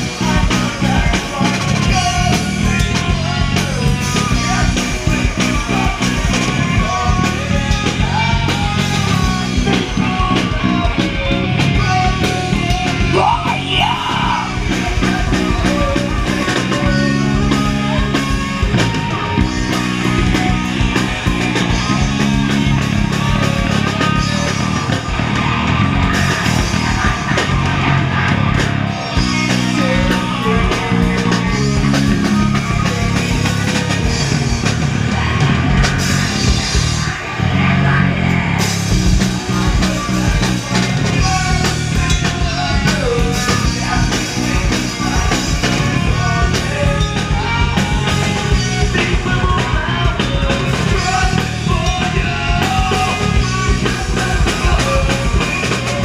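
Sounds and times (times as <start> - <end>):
person singing: 0.0 - 25.4, 26.0 - 38.0, 39.0 - 56.0
distorted electric guitars: 0.0 - 56.0
drum kit: 0.0 - 56.0.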